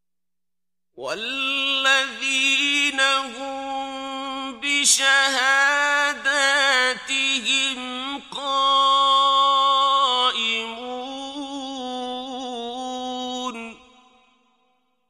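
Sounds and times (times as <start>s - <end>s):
man chanting recitation: 1.0s - 13.8s.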